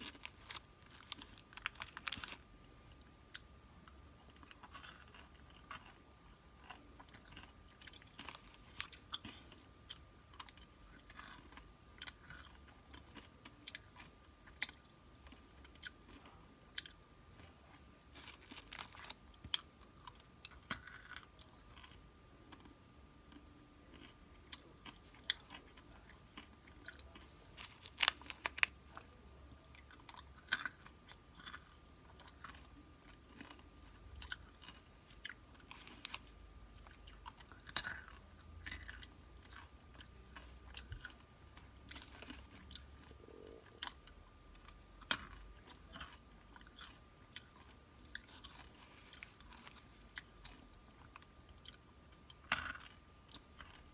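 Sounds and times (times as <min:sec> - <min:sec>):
crunching and chewing snacks: 0:00.0 - 0:53.9.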